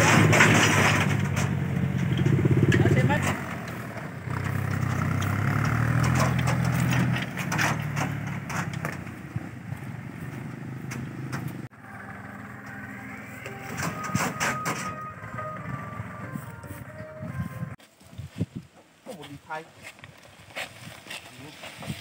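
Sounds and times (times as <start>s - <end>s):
tractor engine running: 0.0s - 17.8s.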